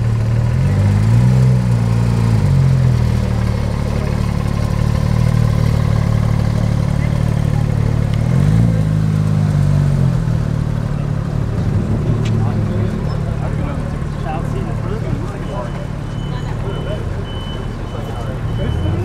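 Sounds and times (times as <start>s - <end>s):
sports car engine at low revs: 0.0s - 16.0s.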